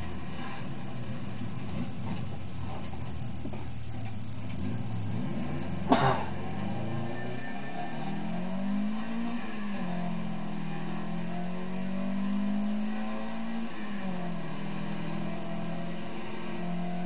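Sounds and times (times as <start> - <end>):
car engine revving under load: 0.0 - 17.0.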